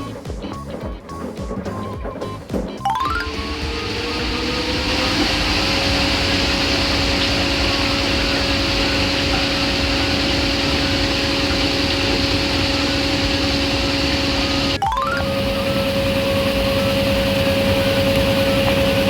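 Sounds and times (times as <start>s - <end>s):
washer-dryer motor whine: 0.0s - 19.0s.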